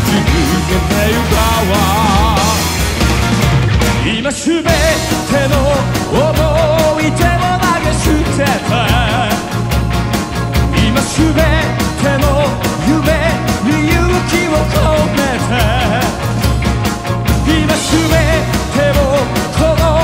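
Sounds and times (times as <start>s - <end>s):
person singing lead: 0.0s - 2.7s, 4.0s - 9.7s, 10.6s - 16.4s, 17.4s - 20.0s
drums steady beat: 0.0s - 20.0s
live rock band playing: 0.0s - 20.0s.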